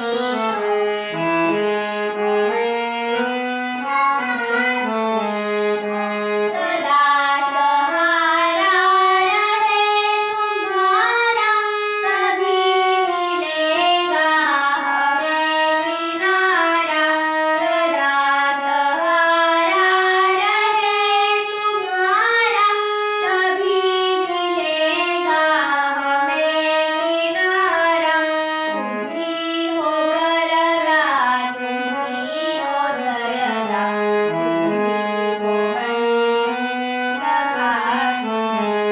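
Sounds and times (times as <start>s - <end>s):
instrumental accompaniment: 0.0s - 38.9s
girl singing: 3.8s - 34.2s, 37.2s - 38.4s.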